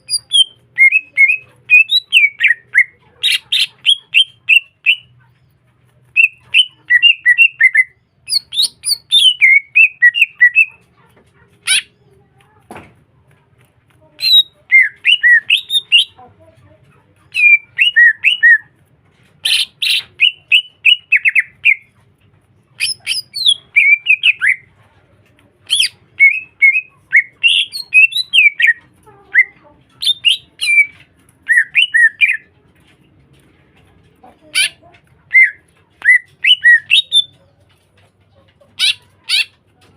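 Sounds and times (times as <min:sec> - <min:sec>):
bird chattering song: 0:00.0 - 0:10.9, 0:11.6 - 0:12.0, 0:14.2 - 0:16.2, 0:17.2 - 0:18.8, 0:19.4 - 0:22.1, 0:22.7 - 0:24.8, 0:25.6 - 0:32.9, 0:34.4 - 0:39.8.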